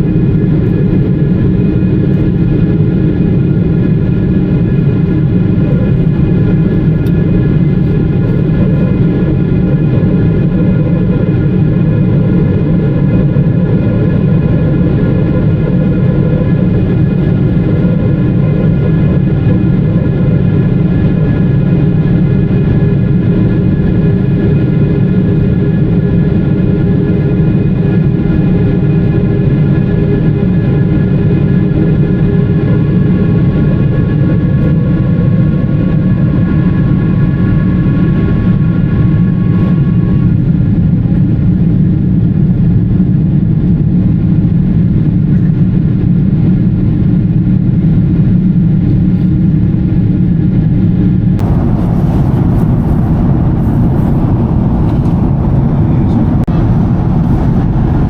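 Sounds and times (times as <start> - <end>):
airplane cabin airflow and jet engines: 0.0 - 58.0
steady engine tones humming: 0.0 - 58.0.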